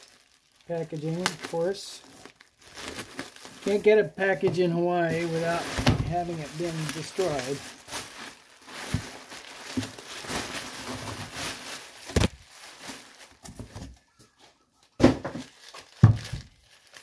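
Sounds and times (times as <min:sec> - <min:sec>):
bubble wrap rustling: 0:00.0 - 0:17.0.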